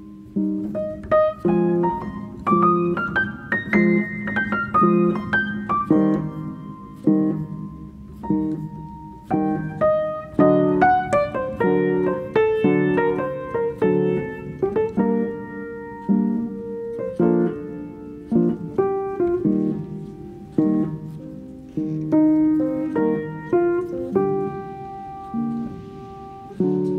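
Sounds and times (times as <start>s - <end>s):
slow piano melody: 0.0s - 26.9s.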